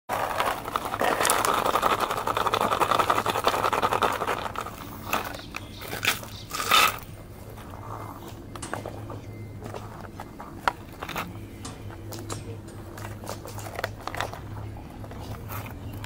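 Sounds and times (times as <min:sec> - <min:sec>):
animal chewing plastic bottle: 0:00.1 - 0:07.0, 0:09.6 - 0:16.0.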